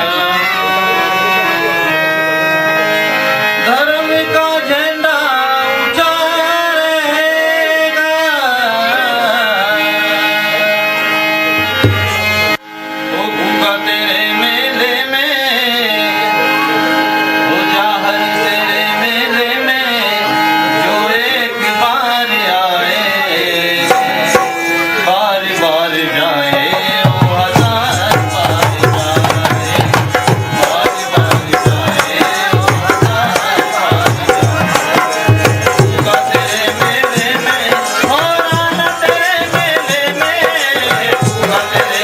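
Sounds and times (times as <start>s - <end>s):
wavering devotional melody: 0.0s - 42.0s.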